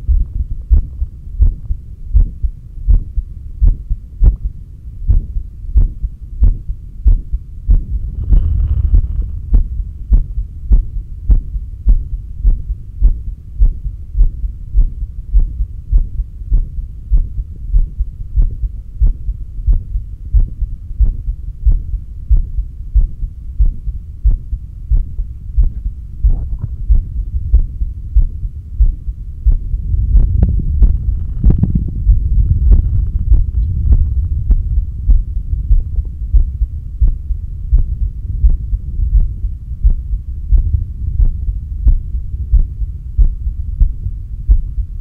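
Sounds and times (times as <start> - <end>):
heartbeat through a stethoscope: 0.0 - 45.0
low rumble: 0.0 - 45.0.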